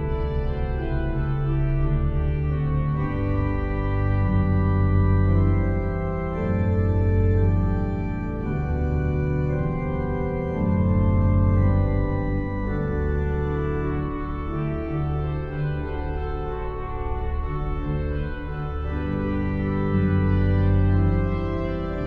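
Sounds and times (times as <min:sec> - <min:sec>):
background music of sustained chords: 0:00.0 - 0:22.0.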